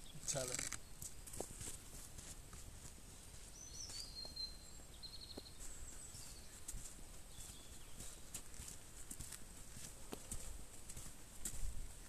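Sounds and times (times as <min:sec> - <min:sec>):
faint birdsong: 0:00.0 - 0:12.0
footsteps on dirt: 0:00.0 - 0:12.0.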